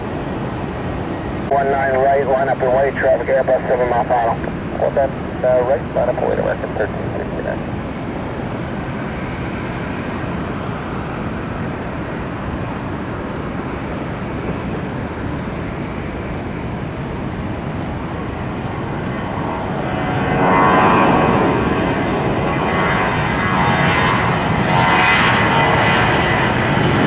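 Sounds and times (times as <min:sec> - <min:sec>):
jet engine whine: 0:00.0 - 0:27.0
jet engines rumbling: 0:00.0 - 0:27.0.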